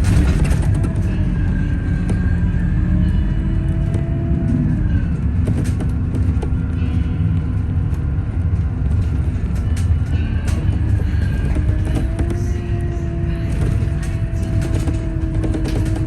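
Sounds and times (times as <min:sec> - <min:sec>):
bus engine and road rumble: 0:00.0 - 0:16.0
gliding whine: 0:00.0 - 0:16.0
light knocks and rattles: 0:00.0 - 0:16.0.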